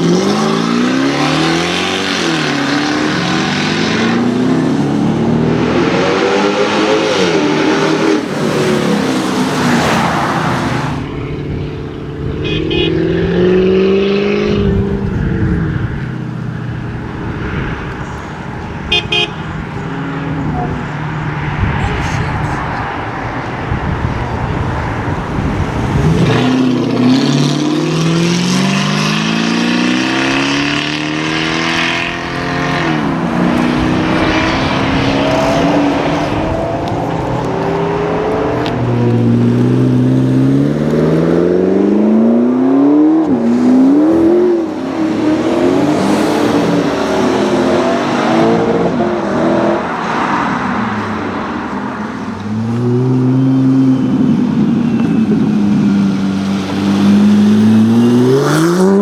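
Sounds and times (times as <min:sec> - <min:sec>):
car engine accelerating hard: 0:00.0 - 0:16.0, 0:19.8 - 0:59.0.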